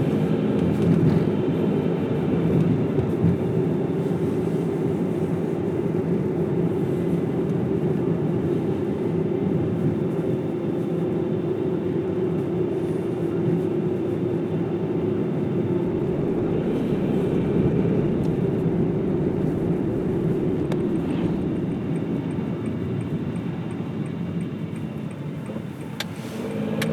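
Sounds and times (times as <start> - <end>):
car tyre and engine drone: 0.0 - 26.9.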